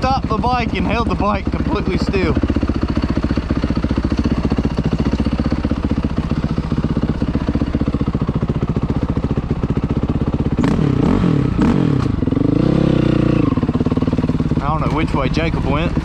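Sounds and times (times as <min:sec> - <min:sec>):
dirt bike engine idling and revving: 0:00.0 - 0:16.0.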